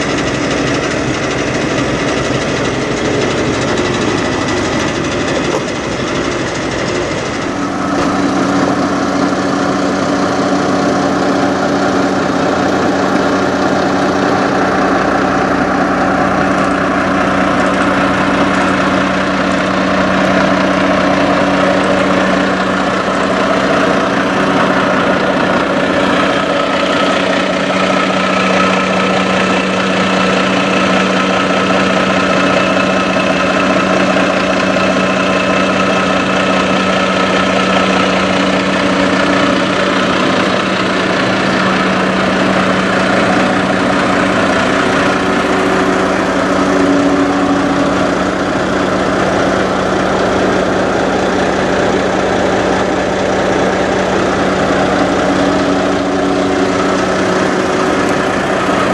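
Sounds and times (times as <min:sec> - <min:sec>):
diesel truck engine idling: 0:00.0 - 0:58.9.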